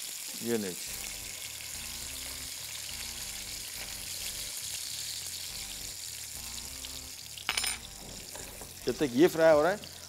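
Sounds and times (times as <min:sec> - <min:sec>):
kebabs sizzling in frying oil: 0:00.0 - 0:10.0.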